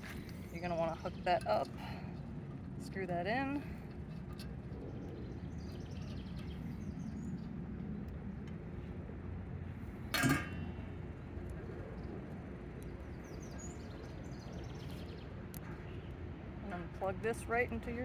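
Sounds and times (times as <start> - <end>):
low outdoor background noise: 0.0 - 18.0.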